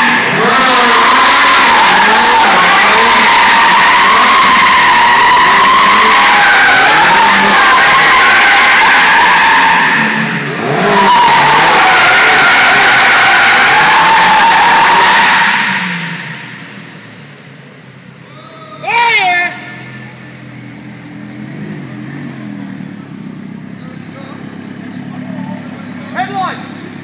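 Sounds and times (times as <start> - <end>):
car engine revving: 0.0 - 18.0, 19.5 - 27.0.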